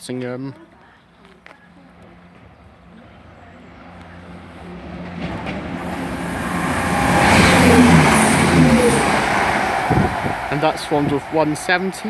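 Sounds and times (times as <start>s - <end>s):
train engine hum: 0.8s - 12.0s
wheels rushing on rail: 1.7s - 12.0s.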